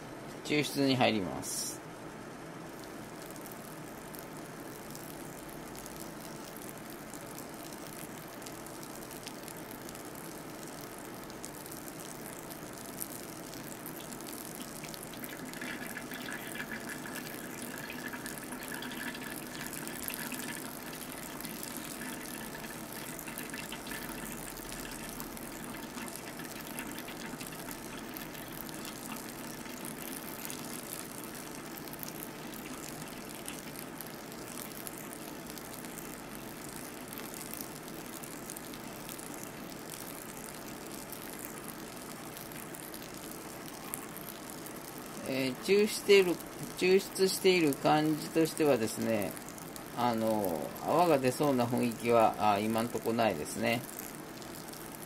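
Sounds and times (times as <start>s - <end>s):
water pouring onto coffee grounds: 2.7s - 55.0s.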